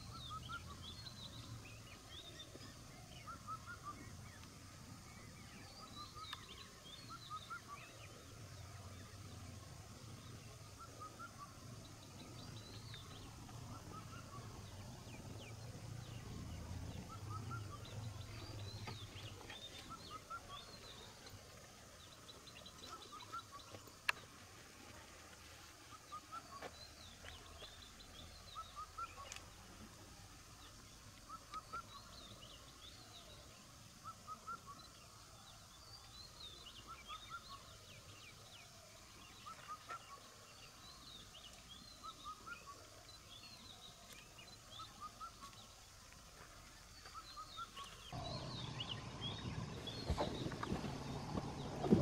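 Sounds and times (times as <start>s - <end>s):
faint birdsong: 0.0s - 52.0s
outdoor background noise: 0.0s - 52.0s.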